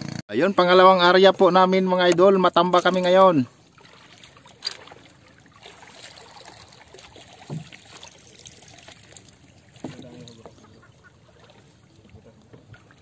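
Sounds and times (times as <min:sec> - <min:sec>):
water trickling and lapping: 0:02.0 - 0:13.0.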